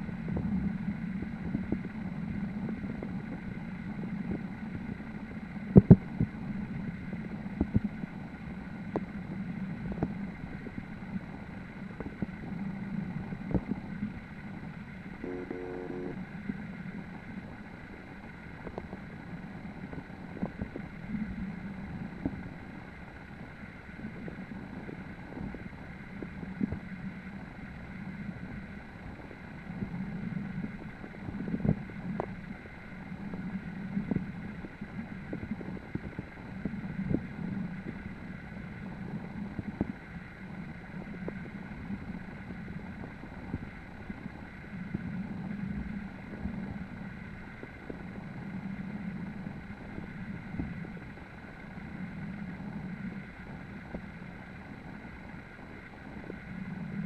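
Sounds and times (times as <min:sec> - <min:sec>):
muffled underwater river rush: 0:00.0 - 0:57.0.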